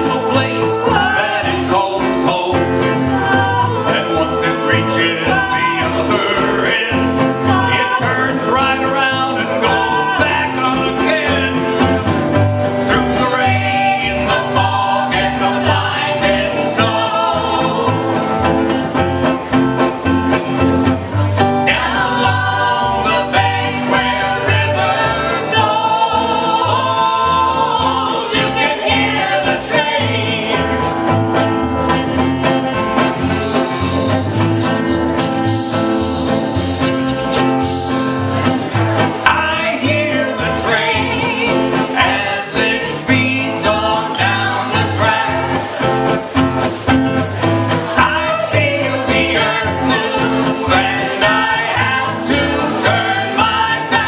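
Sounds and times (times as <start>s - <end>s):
person singing: 0.0s - 12.0s, 12.8s - 18.4s, 21.5s - 30.9s, 33.0s - 38.5s, 39.1s - 46.2s, 47.7s - 54.0s
country band playing: 0.0s - 54.0s
guitar: 0.0s - 54.0s.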